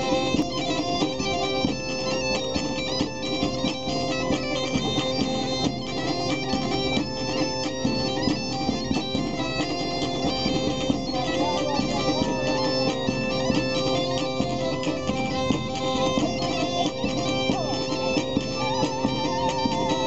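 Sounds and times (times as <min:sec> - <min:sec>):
folk dance tune on droning wind instrument: 0:00.0 - 0:20.0.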